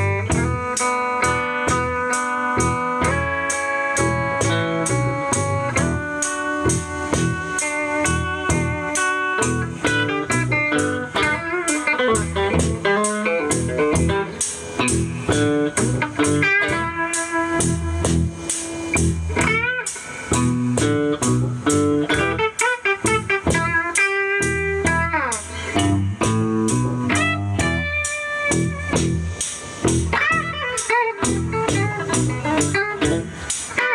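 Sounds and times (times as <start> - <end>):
blues guitar with gliding notes: 0.0 - 33.9
steady beat: 0.0 - 33.9.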